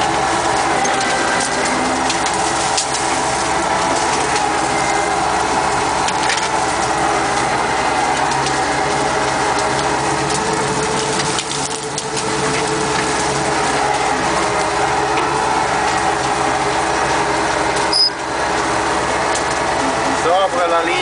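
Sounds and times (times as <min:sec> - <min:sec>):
branches crackling and snapping: 0:00.0 - 0:20.7
tractor diesel engine running: 0:00.0 - 0:21.0.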